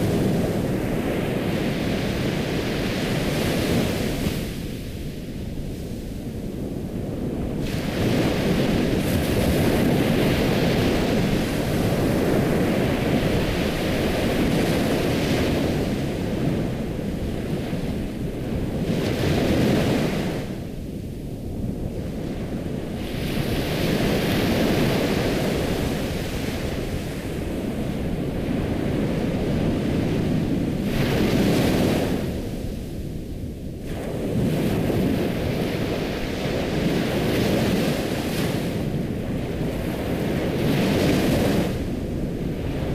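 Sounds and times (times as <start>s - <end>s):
ocean waves washing onto shore: 0.0s - 42.9s.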